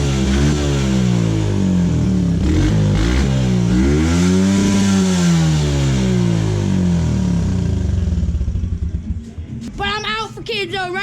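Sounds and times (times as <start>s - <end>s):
dirt bike engine revving: 0.0s - 8.9s.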